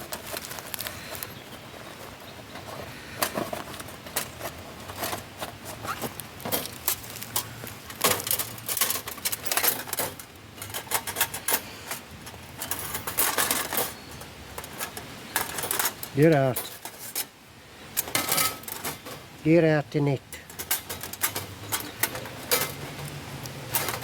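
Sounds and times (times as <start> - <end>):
metal camp gear clinking and rattling: 0.0 - 19.4, 20.3 - 24.0.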